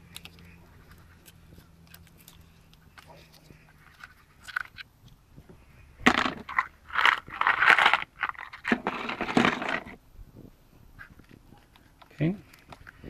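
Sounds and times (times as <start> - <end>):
scraping and crackling handling noises: 0.0 - 10.0, 11.0 - 13.0.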